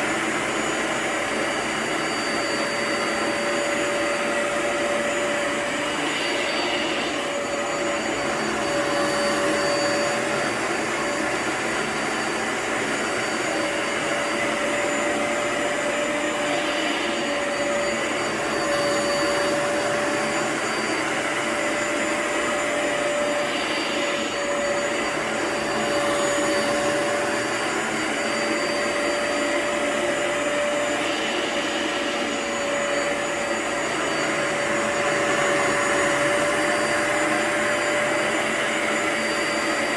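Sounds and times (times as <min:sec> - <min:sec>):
carpet cleaning machine running: 0:00.0 - 0:39.9.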